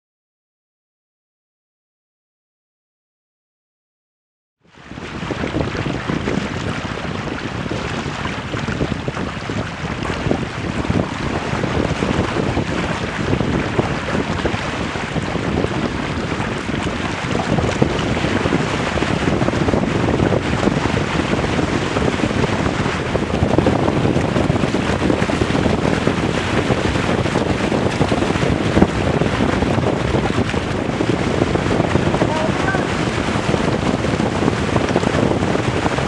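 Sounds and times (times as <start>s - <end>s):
water rushing past hull: 4.7s - 36.0s
wind buffeting microphone: 4.8s - 36.0s.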